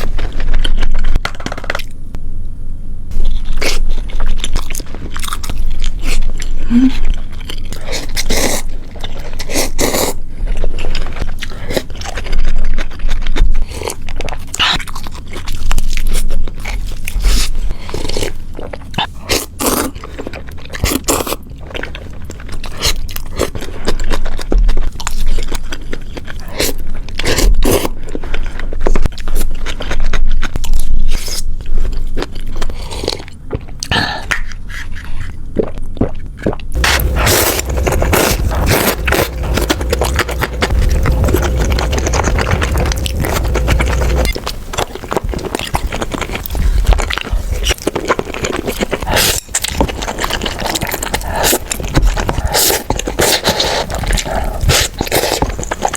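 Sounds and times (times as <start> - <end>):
person chewing crunchy food: 3.1 - 55.9.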